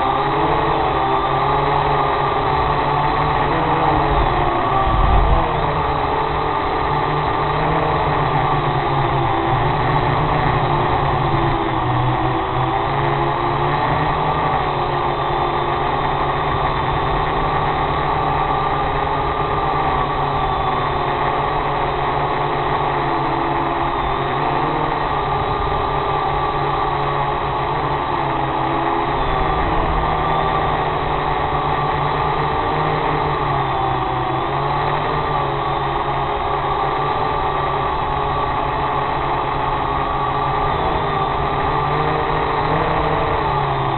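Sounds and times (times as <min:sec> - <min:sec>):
drone motors and propellers: 0:00.0 - 0:43.9.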